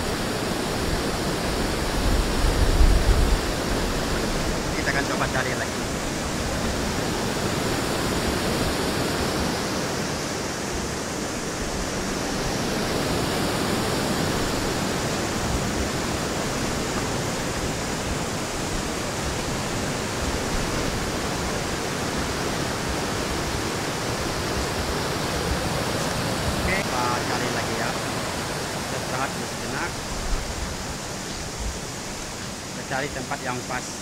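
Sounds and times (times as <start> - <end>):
river rapids rushing: 0.0 - 34.0.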